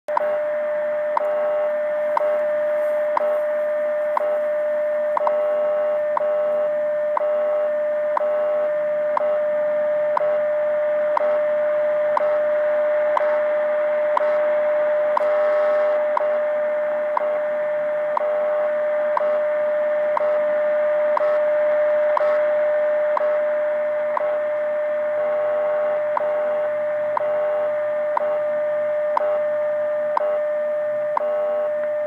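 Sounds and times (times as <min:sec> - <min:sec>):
radio static hiss: 0:00.1 - 0:32.0
steady radio tone with ticks: 0:00.1 - 0:32.0.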